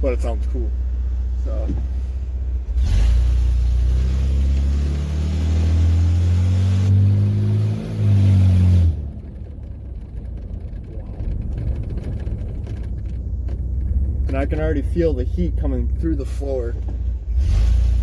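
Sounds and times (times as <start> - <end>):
loud truck engine accelerating: 0.0 - 18.0.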